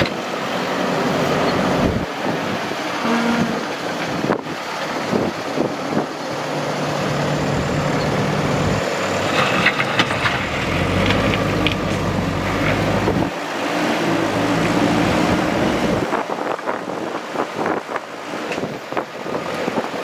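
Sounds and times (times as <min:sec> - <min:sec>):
diesel engine under load: 0:00.0 - 0:02.9, 0:03.8 - 0:17.0.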